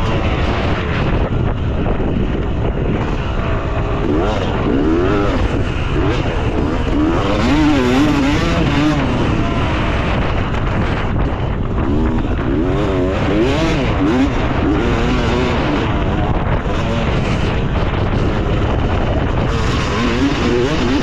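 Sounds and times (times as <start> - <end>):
constant rush of noise: 0.0 - 21.0
motocross engine revving: 0.0 - 21.0.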